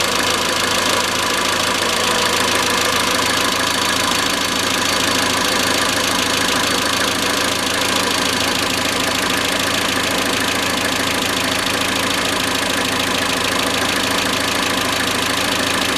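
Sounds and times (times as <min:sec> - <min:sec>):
car engine idling with metallic knocking: 0:00.0 - 0:15.9.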